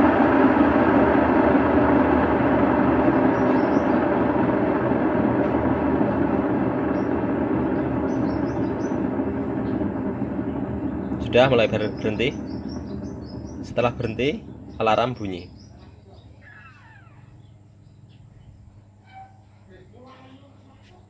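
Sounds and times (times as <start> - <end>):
washing machine tub whirring: 0.0 - 20.5.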